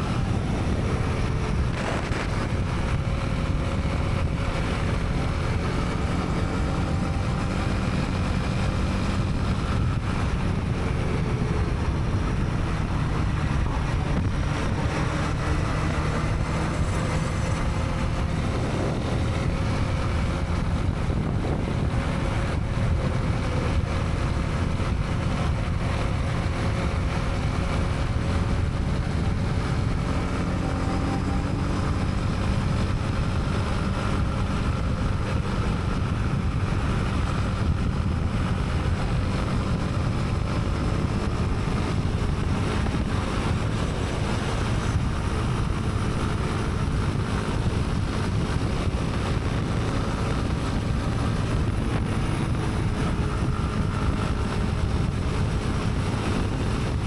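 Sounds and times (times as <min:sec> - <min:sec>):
motorcycle engine running: 0:00.0 - 0:57.0
surrounding traffic: 0:00.0 - 0:57.0
wind noise on camera: 0:00.0 - 0:57.0.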